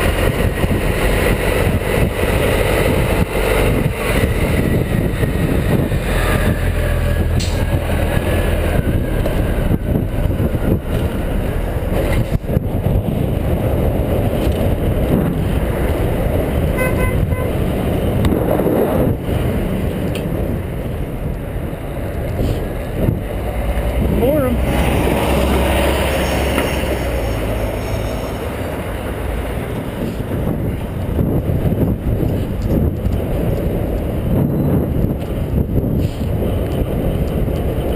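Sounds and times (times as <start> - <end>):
bus running close by: 0.0 - 37.9
city traffic: 0.0 - 37.9
wind rush on microphone: 0.0 - 37.9.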